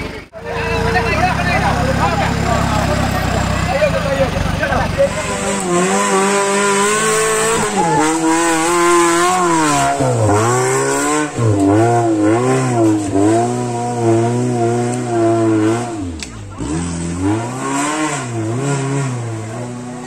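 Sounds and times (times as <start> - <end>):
off-road engine revving: 0.0 - 20.0.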